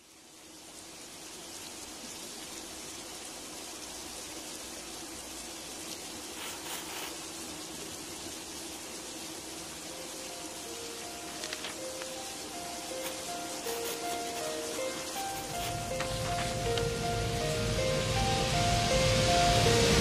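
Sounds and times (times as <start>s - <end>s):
rain-like hiss: 0.0s - 20.0s.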